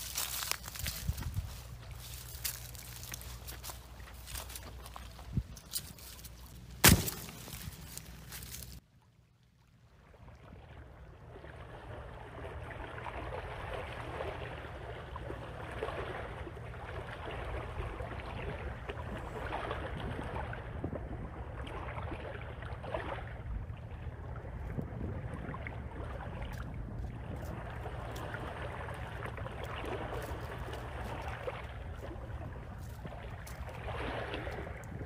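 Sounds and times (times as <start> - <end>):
wind rumble on microphone: 0.0 - 3.2, 4.2 - 6.1, 10.4 - 35.0
fine crackle of water or leaves: 0.0 - 35.0.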